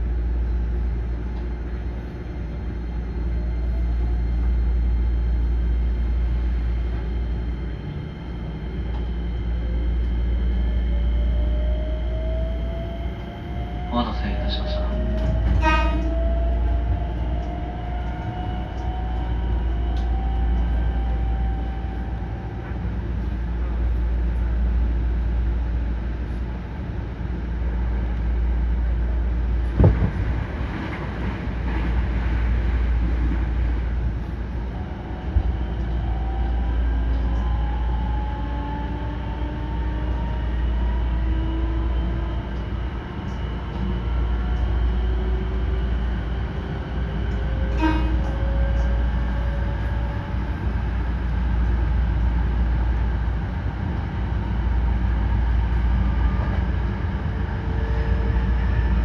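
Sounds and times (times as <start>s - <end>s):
electric train rumbling: 0.0s - 59.0s.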